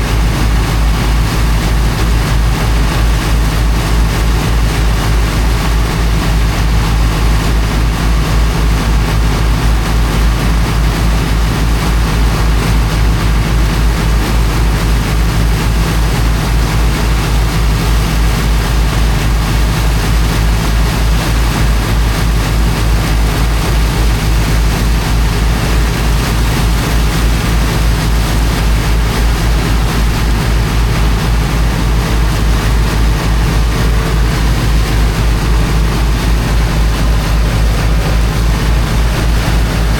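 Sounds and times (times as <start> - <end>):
water pump engine humming: 0.0 - 39.9.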